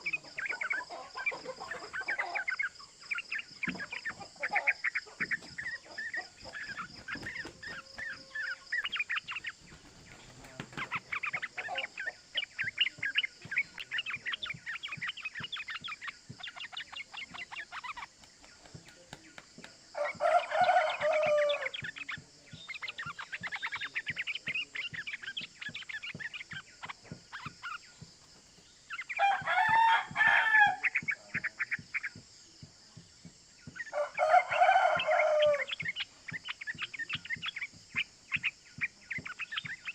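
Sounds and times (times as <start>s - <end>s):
bubbly birdsong phrases: 0.0s - 39.9s
bulbuls chattering: 0.0s - 39.9s.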